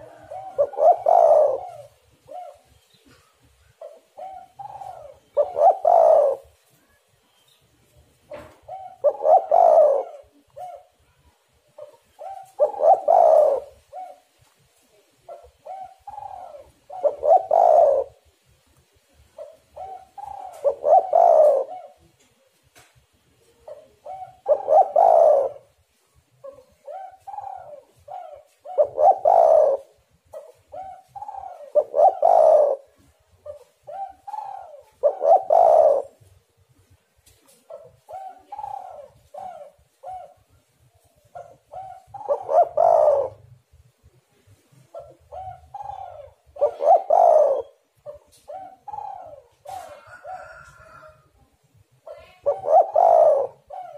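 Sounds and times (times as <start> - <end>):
dove cooing: 0.0 - 7.0, 8.3 - 22.6, 23.3 - 25.8, 26.4 - 53.9.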